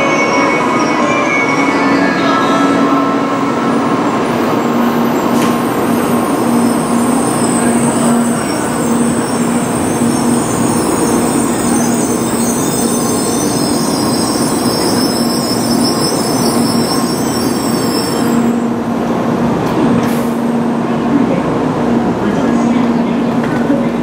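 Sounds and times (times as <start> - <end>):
train rolling noise: 0.0 - 24.0.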